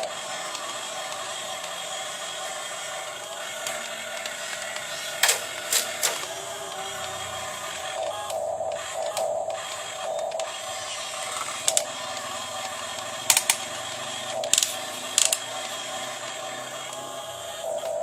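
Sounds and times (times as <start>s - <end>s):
small electric motors whining: 0.0s - 18.0s.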